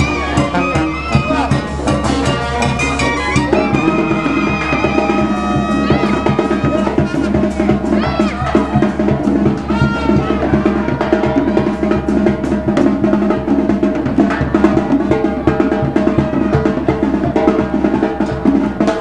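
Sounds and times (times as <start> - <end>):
bass drum and snare beat: 0.0 - 19.0
brass band playing: 0.0 - 19.0.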